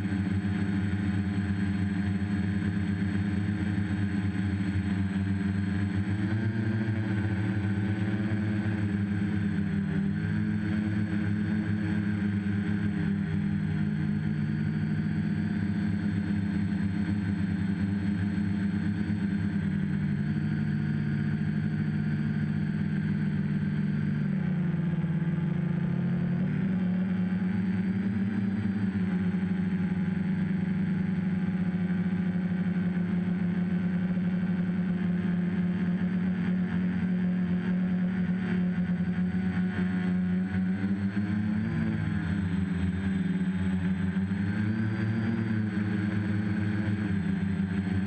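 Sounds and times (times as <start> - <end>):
drone propellers buzzing: 0.0 - 48.0.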